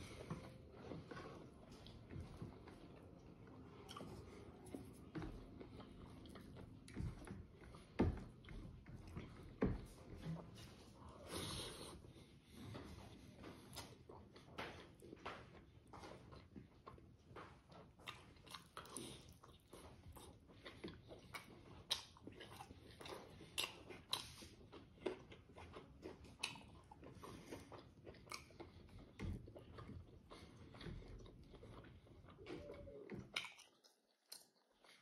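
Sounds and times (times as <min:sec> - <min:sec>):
person chewing with mouth clicks: 0:00.0 - 0:10.4, 0:12.7 - 0:35.0.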